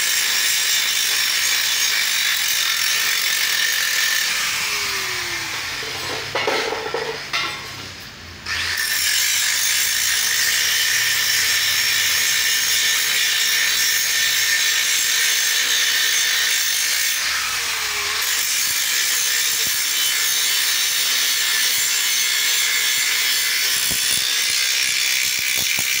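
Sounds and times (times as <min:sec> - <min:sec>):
angle grinder grinding metal: 0:00.0 - 0:07.8, 0:08.5 - 0:26.0.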